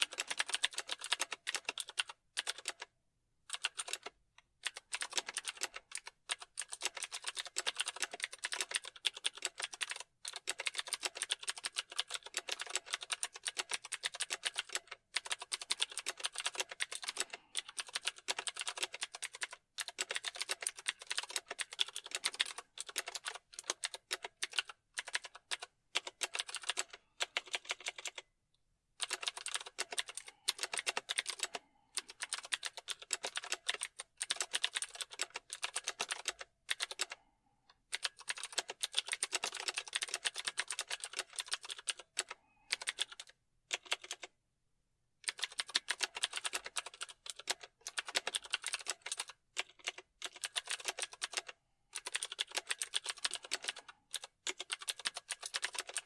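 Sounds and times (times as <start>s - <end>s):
typing on computer keyboard: 0.0s - 2.9s, 3.5s - 28.3s, 29.0s - 44.3s, 45.2s - 56.0s.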